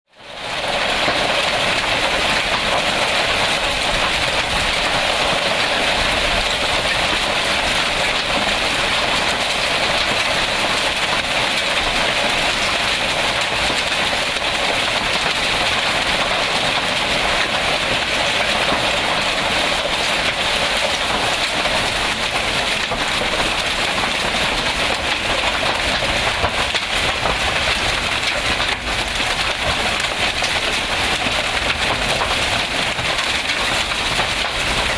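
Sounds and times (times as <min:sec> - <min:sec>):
heavy rain and hail pelting: 0:00.2 - 0:34.9.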